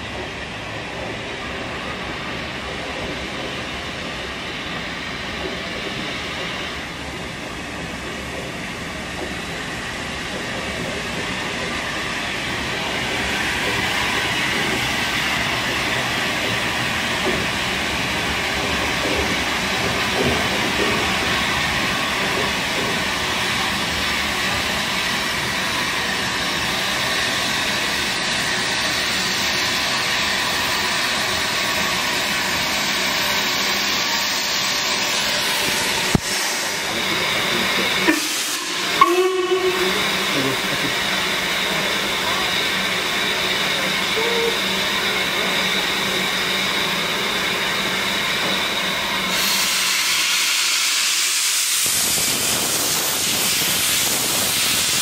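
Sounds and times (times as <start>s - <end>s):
steam locomotive hauling train: 0.0s - 55.0s.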